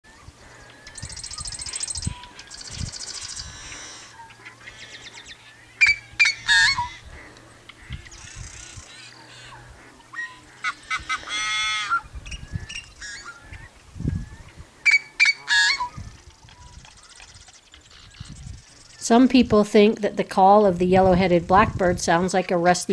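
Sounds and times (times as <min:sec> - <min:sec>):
blackbird calling harsh rasps: 0:00.5 - 0:19.0.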